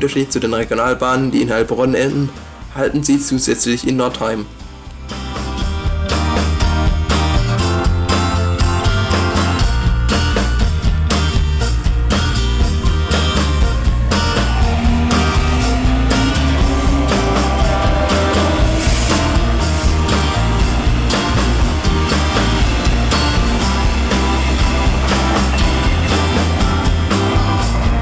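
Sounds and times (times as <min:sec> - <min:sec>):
upbeat music with steady beat: 0:04.5 - 0:28.0.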